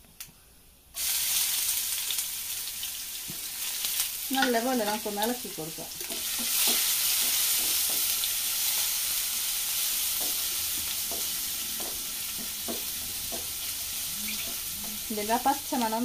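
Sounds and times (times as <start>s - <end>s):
aromatics sizzling in hot oil: 0.9s - 16.0s.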